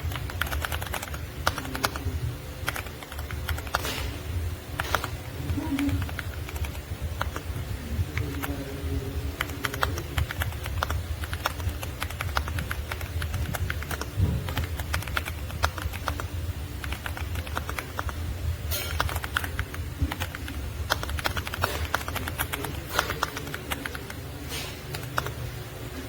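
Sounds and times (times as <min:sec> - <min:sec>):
mechanical keyboard typing: 0:00.0 - 0:04.0, 0:04.8 - 0:07.5, 0:08.1 - 0:08.6, 0:09.4 - 0:18.2, 0:18.8 - 0:24.2, 0:24.9 - 0:25.4.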